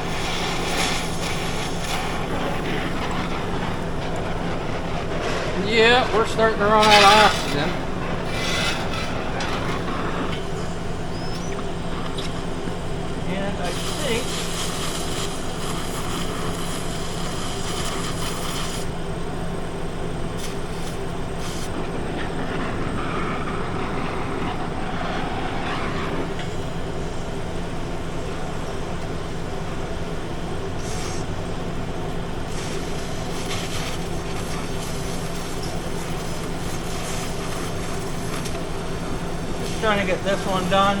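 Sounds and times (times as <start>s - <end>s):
cutting torch hissing: 0.0s - 41.0s.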